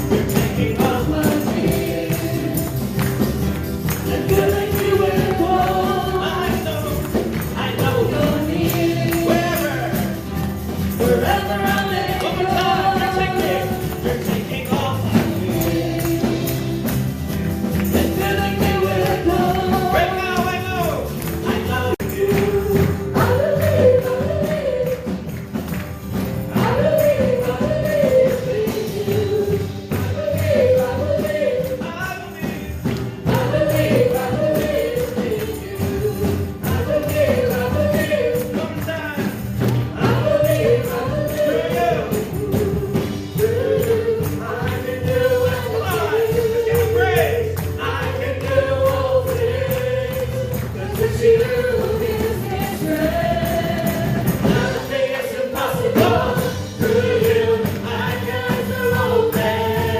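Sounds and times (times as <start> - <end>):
band with drums: 0.0 - 59.9
choir singing gospel: 0.0 - 59.9
tambourine: 0.0 - 59.9.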